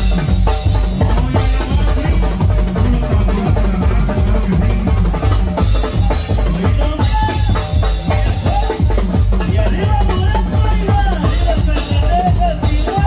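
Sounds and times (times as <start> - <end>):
drum kit beat: 0.0 - 13.0
live band playing cumbia: 0.0 - 13.0.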